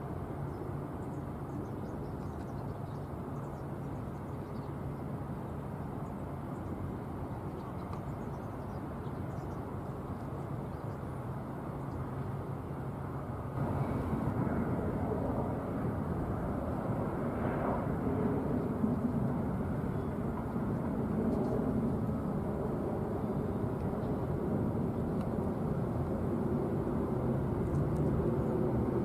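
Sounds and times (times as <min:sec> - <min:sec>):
distant jet engines rumbling: 0:00.2 - 0:29.0.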